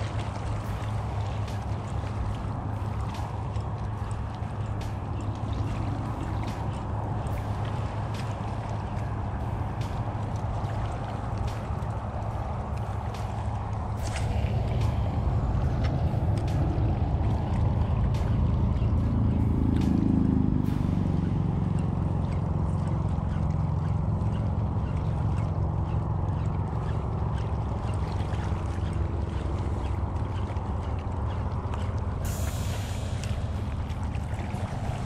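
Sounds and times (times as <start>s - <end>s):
boat motor droning: 0.0s - 35.0s.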